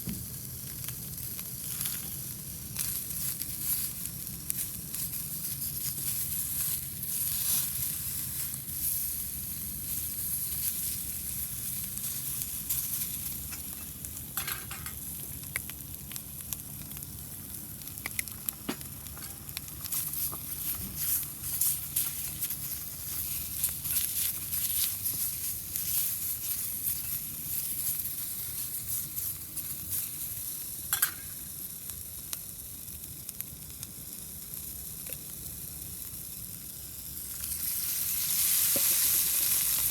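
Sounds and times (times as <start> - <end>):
food sizzling in a pan: 0.0 - 39.9
wood fire crackling: 0.0 - 39.9.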